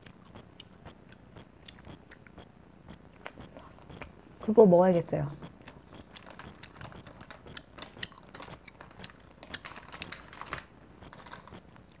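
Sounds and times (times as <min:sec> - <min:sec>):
person chewing: 0:00.0 - 0:04.5, 0:05.4 - 0:12.0.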